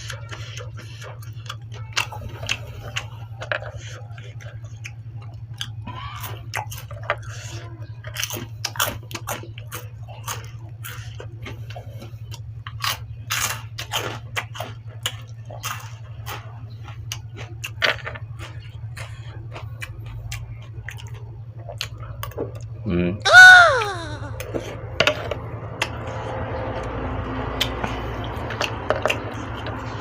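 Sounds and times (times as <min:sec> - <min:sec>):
person chewing crunchy food: 0:00.0 - 0:24.9, 0:25.5 - 0:30.0.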